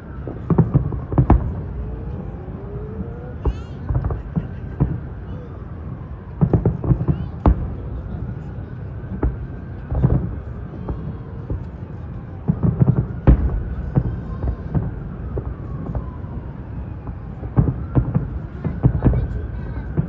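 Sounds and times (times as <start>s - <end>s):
fireworks booming and cracking: 0.1s - 16.4s, 17.0s - 20.0s.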